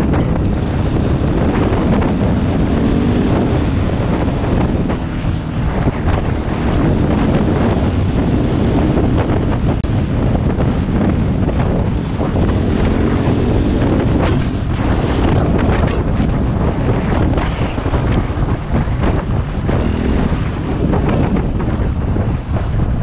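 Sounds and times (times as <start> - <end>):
dirt bike engine running: 0.0 - 23.0
wind buffeting microphone: 0.0 - 23.0.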